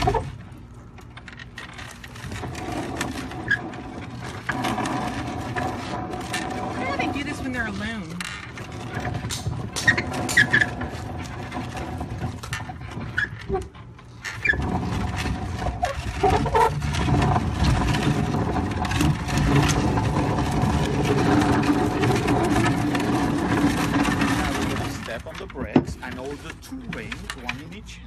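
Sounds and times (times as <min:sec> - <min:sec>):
buggy wheel squealing against roller: 0:00.0 - 0:27.9.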